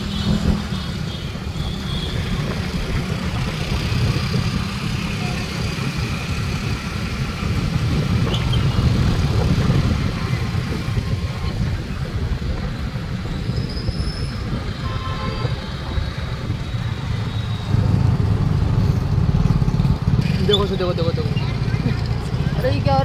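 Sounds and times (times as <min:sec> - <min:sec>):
vehicle engines roaring: 0:00.0 - 0:23.0.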